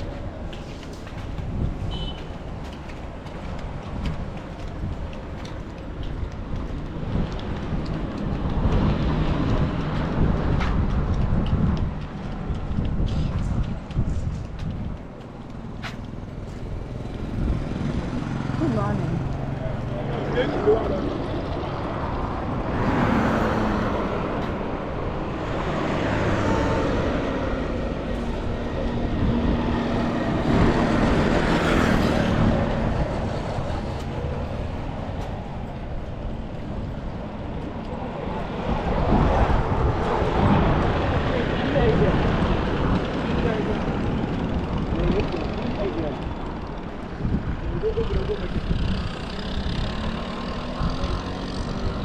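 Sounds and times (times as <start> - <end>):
passing vehicles rumble: 0.0 - 52.0.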